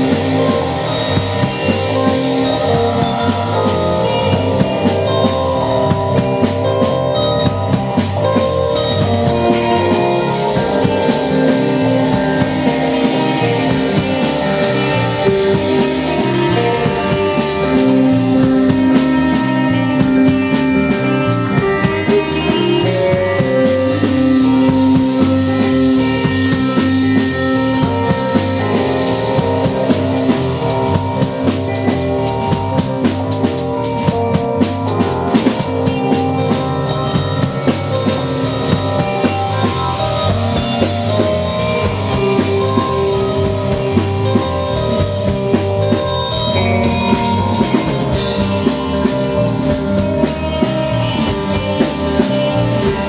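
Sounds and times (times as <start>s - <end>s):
drum kit: 0.0s - 53.0s
electric guitar: 0.0s - 53.0s
keyboard: 0.0s - 53.0s.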